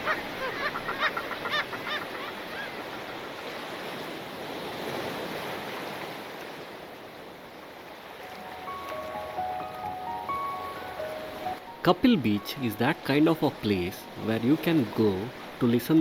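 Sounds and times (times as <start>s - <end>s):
sea surf breaking on beach: 0.0s - 16.0s.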